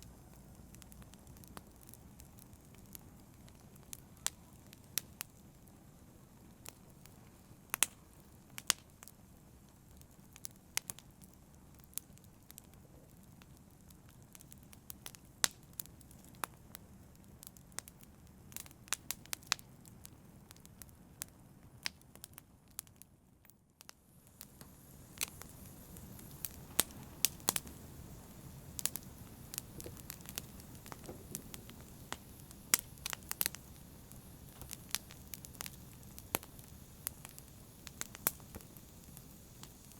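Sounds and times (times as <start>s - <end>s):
wood crackling and popping: 0.0s - 5.8s, 6.4s - 39.9s
low rumble of flame: 0.0s - 39.9s.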